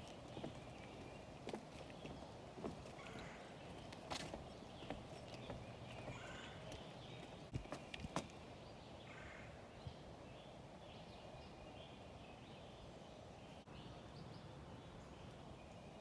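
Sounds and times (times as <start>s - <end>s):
low woodland hush: 0.0s - 16.0s.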